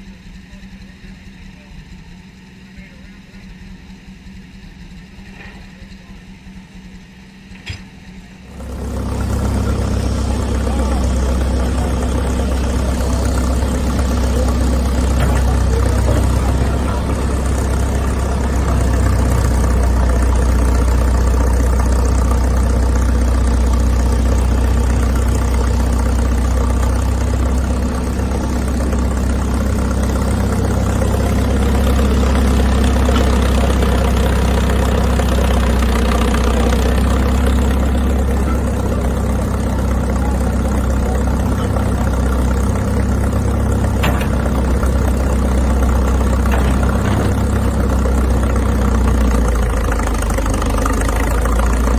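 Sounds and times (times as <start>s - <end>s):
large engine idling: 0.0s - 51.9s.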